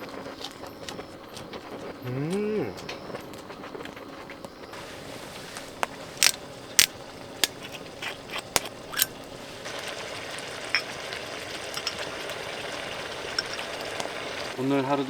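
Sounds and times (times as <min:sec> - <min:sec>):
firewood burning and crackling: 0:00.0 - 0:15.0.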